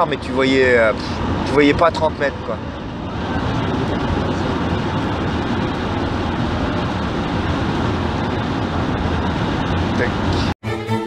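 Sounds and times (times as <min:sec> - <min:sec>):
road noise inside car: 0:00.0 - 0:10.6.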